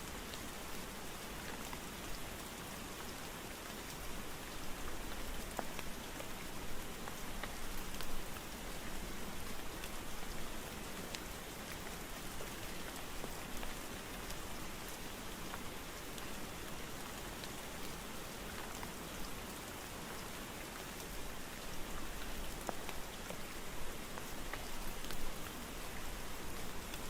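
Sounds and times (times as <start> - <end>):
steady rainfall hiss: 0.0 - 27.0.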